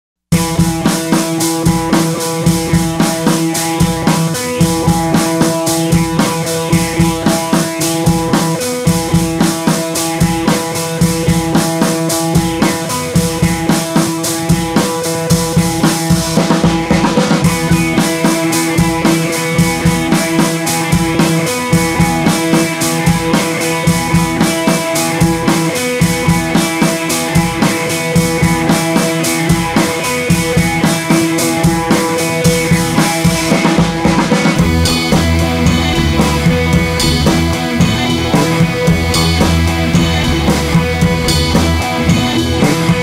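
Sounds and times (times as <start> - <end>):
drum kit beat: 0.3 - 43.0
rock music: 0.3 - 43.0.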